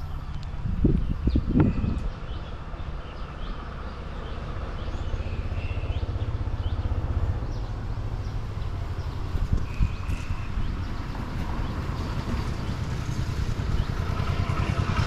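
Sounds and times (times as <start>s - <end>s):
motorcycle engine pulsing rumble: 0.0s - 15.0s.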